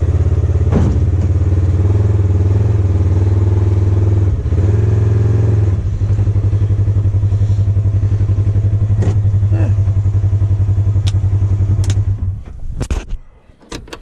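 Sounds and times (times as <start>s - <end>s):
engine running at low speed: 0.0s - 12.9s.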